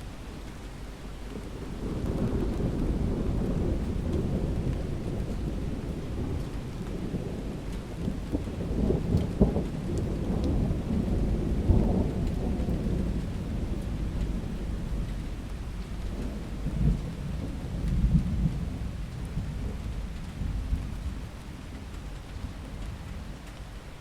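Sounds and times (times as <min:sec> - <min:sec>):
heavy rain: 0:00.0 - 0:24.0
raindrops ticking on window glass: 0:01.2 - 0:24.0
rolling thunder: 0:01.3 - 0:23.4.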